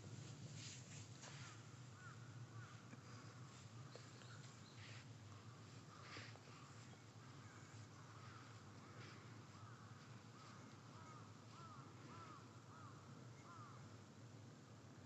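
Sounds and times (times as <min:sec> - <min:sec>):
low steady hum: 0:00.0 - 0:15.0
bird calling faintly: 0:00.6 - 0:14.3.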